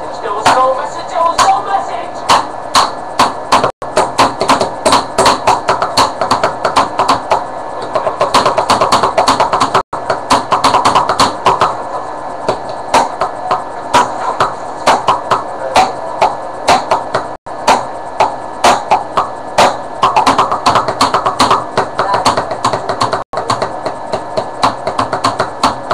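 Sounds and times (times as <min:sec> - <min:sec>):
drumming on household objects: 0:00.4 - 0:25.9.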